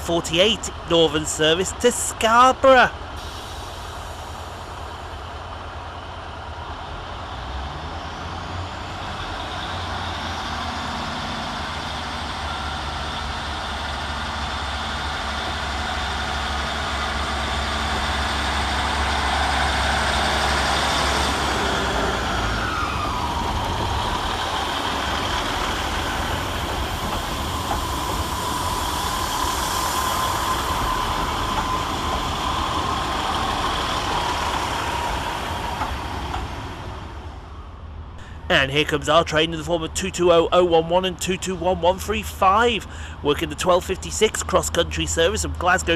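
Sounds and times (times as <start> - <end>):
train diesel engines rumbling: 0.0 - 45.9
train whine: 0.0 - 45.9.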